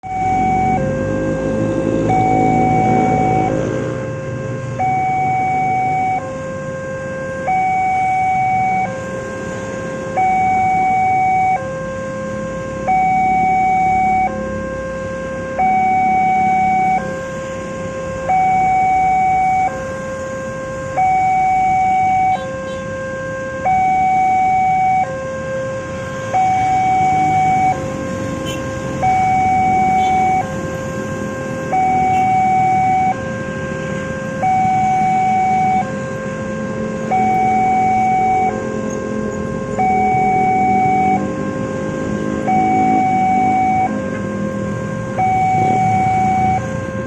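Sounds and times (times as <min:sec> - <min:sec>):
level crossing two-tone alarm: 0:00.0 - 0:47.0
road traffic rumble: 0:00.0 - 0:47.0.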